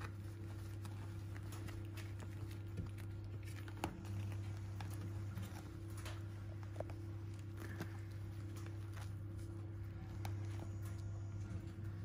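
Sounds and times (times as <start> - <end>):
puppy paws tapping and scuffling: 0.0 - 12.0
steady low hum: 0.0 - 12.0.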